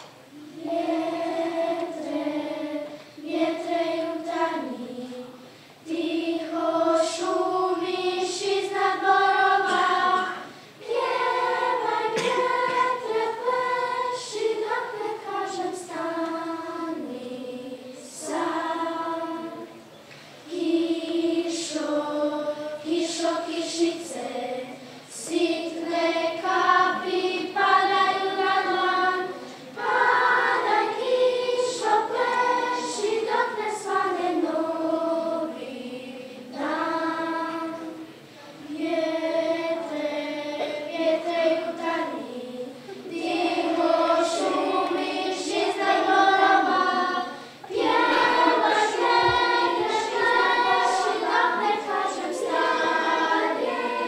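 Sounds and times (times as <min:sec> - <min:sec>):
children's choir singing: 0:00.0 - 0:54.0.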